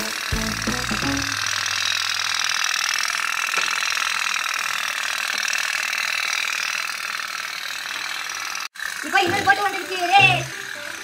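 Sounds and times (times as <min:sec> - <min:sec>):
toy steam boats popping: 0:00.0 - 0:11.0.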